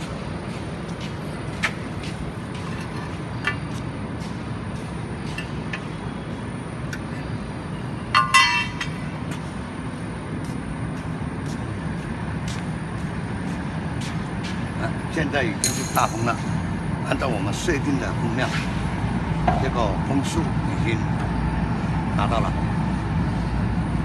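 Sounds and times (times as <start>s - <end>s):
low rumble of fan and fire: 0.0s - 24.0s.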